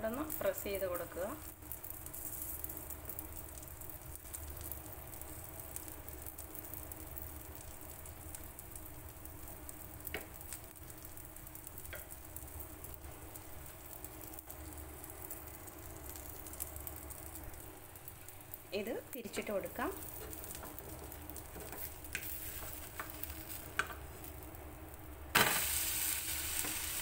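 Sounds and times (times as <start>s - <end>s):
batter sizzling in oil: 0.0s - 27.0s.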